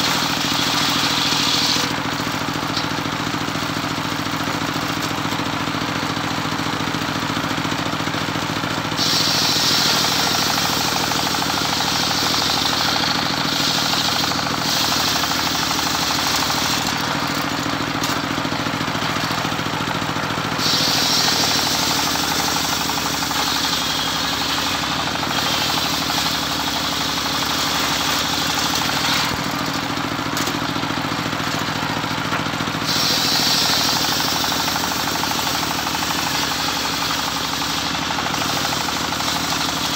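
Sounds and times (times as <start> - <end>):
saw blade cutting wood: 0.0 - 5.2, 8.9 - 39.9
engine drone: 0.0 - 39.9.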